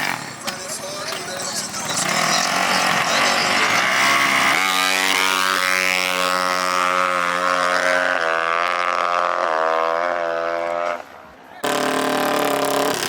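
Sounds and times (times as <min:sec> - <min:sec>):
small racing engine running: 0:00.0 - 0:10.8, 0:11.6 - 0:13.0.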